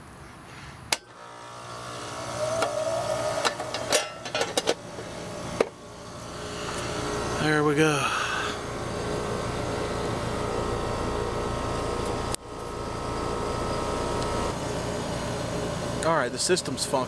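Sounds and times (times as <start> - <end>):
heat pump humming: 0.9 - 17.0.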